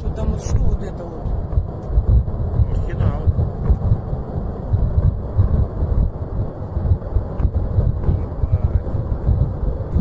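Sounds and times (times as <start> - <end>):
low rumbling explosions: 0.0 - 10.0.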